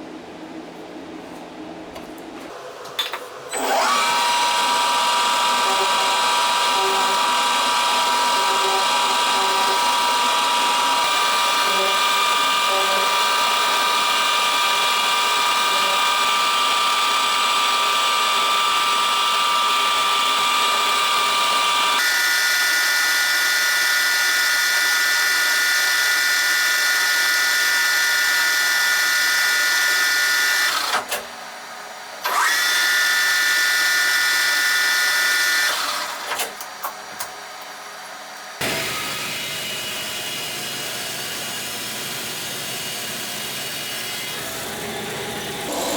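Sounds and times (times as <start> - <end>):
machine tool motor whining: 3.5 - 31.2, 32.2 - 37.0, 38.6 - 45.9.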